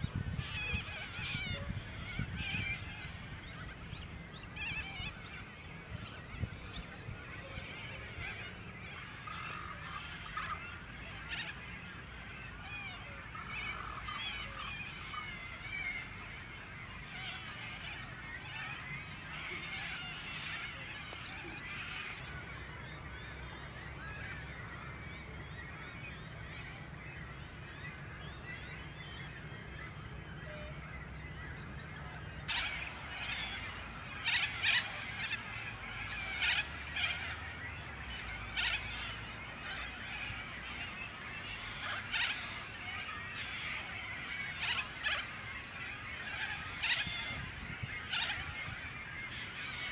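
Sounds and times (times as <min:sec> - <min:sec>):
many birds calling: 0:00.0 - 0:49.9.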